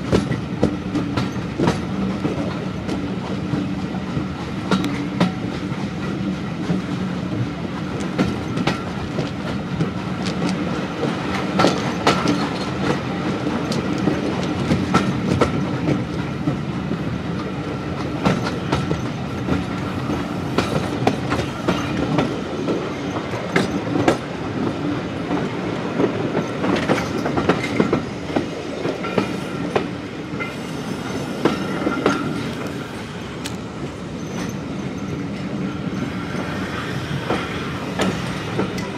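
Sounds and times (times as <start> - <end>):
train coach rumble and air rush: 0.0 - 38.9
wheels clattering over rail joints: 0.1 - 16.6, 17.4 - 24.7, 25.3 - 38.9.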